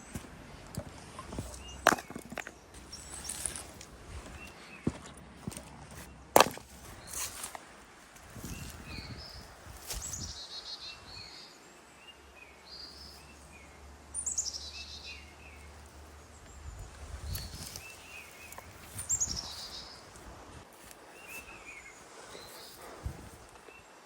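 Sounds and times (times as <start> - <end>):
birds chirping: 0.0 - 7.6, 8.4 - 20.3, 21.0 - 24.0.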